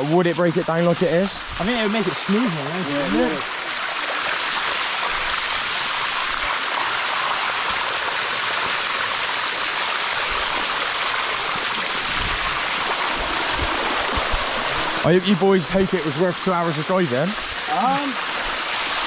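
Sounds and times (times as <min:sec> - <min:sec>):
waterfall rushing over rock: 0:00.0 - 0:19.0.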